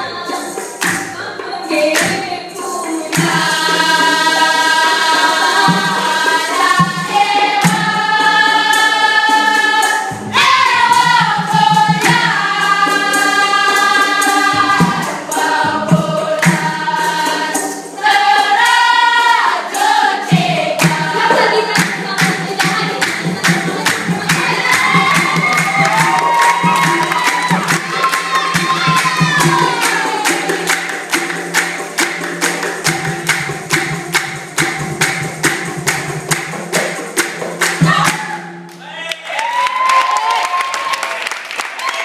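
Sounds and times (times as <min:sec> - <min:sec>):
group of voices singing: 0:00.0 - 0:33.9
steady percussive beat: 0:00.0 - 0:40.2.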